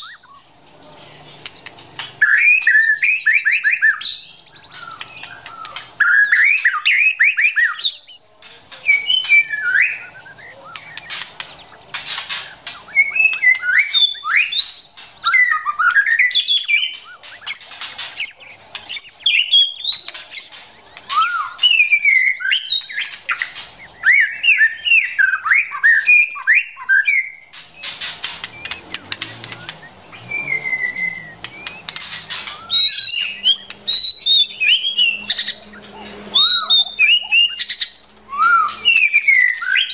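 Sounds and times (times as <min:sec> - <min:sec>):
bird whistled song: 0:00.0 - 0:00.5, 0:01.4 - 0:39.9.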